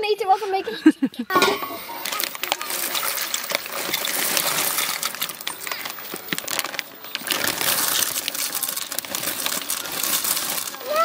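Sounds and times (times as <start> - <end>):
dry pasta pouring into water: 1.8 - 11.0.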